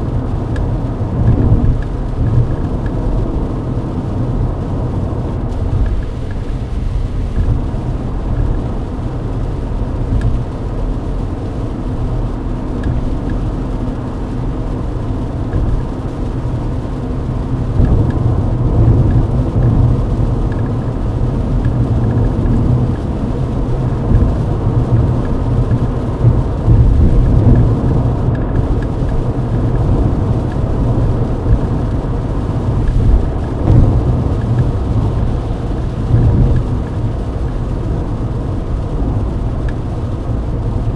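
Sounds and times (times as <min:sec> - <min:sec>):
car road and engine rumble: 0:00.0 - 0:40.9
tyres hissing on wet road: 0:00.0 - 0:40.9.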